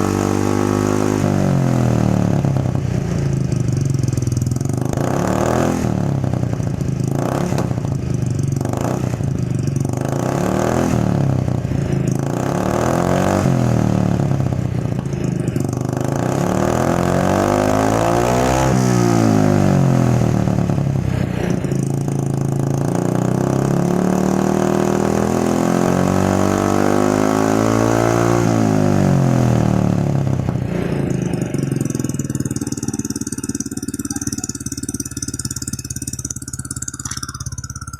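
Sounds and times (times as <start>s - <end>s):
scooter engine revving: 0.0s - 37.9s.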